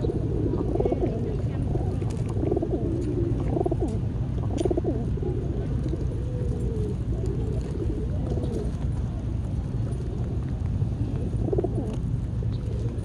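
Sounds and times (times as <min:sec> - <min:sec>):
pigeons cooing: 0:00.0 - 0:09.2, 0:11.0 - 0:13.0
steady low rumble: 0:00.0 - 0:13.0.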